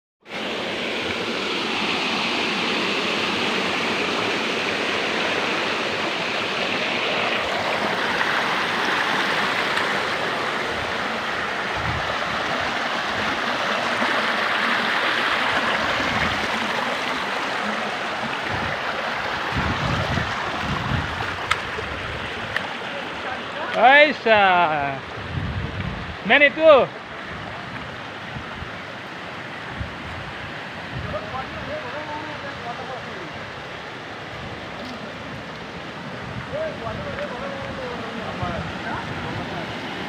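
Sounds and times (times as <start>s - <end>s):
waterfall rushing: 0.3s - 40.0s.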